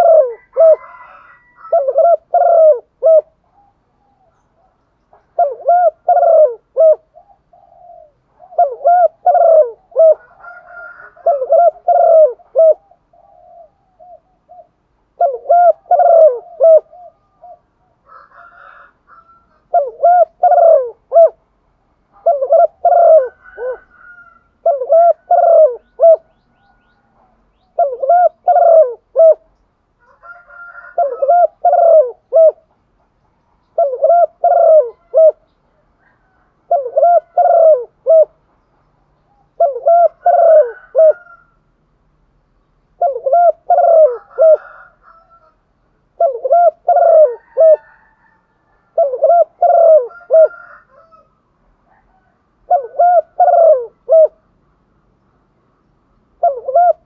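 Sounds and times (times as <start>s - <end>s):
dove cooing: 0.0s - 21.4s, 22.1s - 32.8s, 33.6s - 38.4s, 39.2s - 41.6s, 43.0s - 51.3s, 51.9s - 54.5s, 56.4s - 57.0s.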